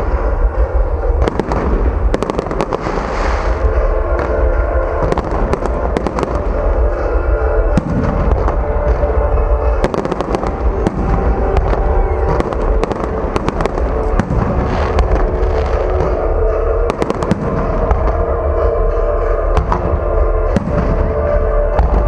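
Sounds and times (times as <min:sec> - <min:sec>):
fireworks bangs and crackling: 0:00.0 - 0:22.0
low rumble: 0:00.0 - 0:22.0
music playing: 0:00.0 - 0:22.0.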